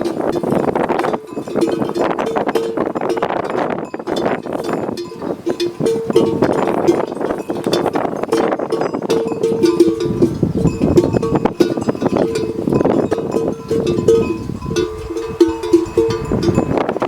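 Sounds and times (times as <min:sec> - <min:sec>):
animal bells clanking: 0:00.0 - 0:17.0.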